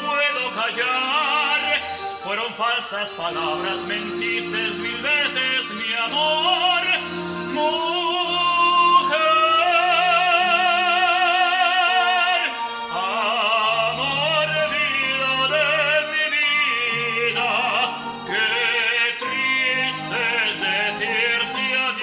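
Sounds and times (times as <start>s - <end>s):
instrumental backing with bass: 0.0s - 22.0s
man singing operatically: 0.0s - 22.0s.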